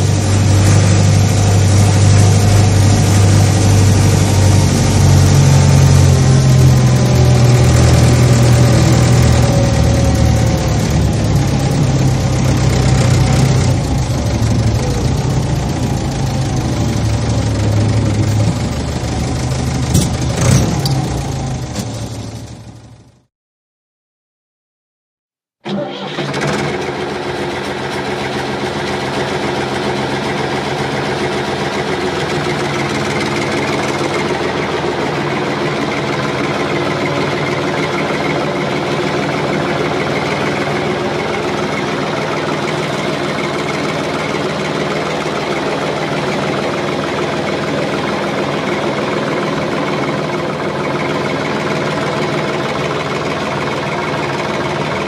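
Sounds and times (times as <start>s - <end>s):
engine running steadily: 0.0s - 23.3s, 25.7s - 55.0s.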